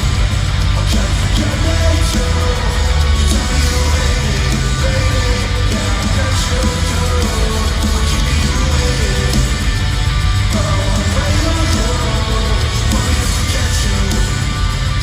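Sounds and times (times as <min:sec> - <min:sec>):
crowd noise: 0:00.0 - 0:15.0
loud live pop-punk music: 0:00.0 - 0:15.0.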